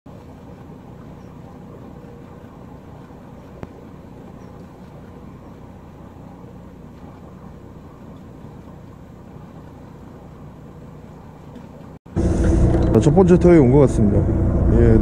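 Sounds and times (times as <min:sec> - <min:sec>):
boat engine idling: 0:00.1 - 0:15.0.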